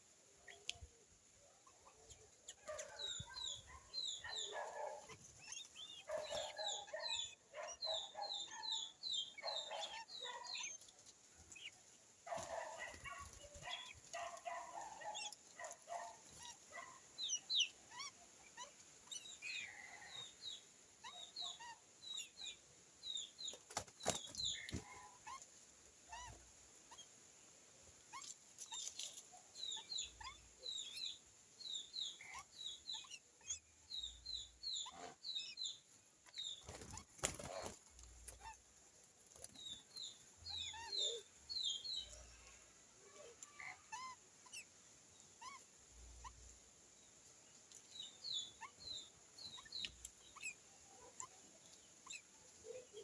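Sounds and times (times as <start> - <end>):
birds chirping: 1.5 - 25.5, 28.1 - 53.0.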